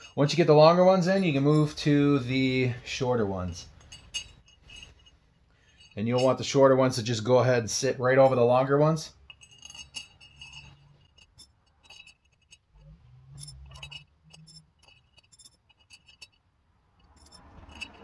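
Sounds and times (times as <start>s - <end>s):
metal spokes clinking: 0.0s - 18.0s.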